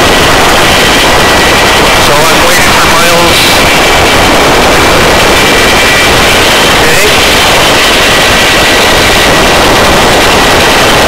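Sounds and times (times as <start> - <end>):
helicopter rotor and turbine: 0.0 - 11.0
thin high whine: 0.0 - 11.0.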